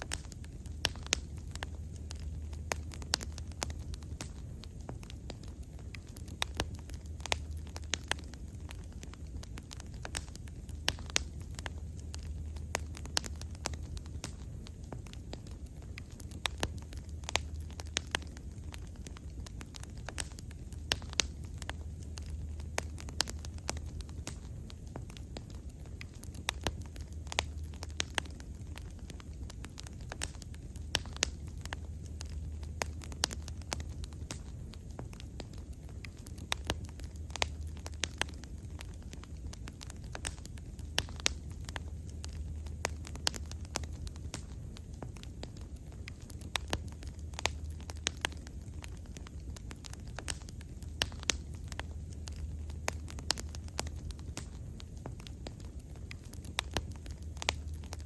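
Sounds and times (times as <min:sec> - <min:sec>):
bonfire crackling and popping: 0:00.0 - 0:58.0
low fire rumble: 0:00.0 - 0:58.0.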